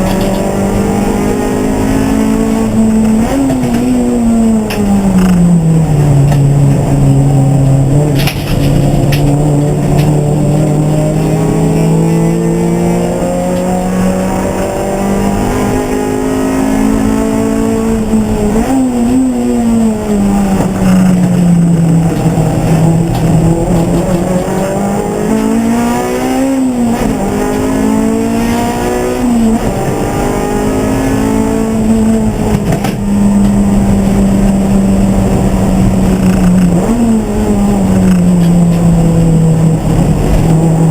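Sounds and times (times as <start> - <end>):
racing car engine under load: 0.0 - 40.9.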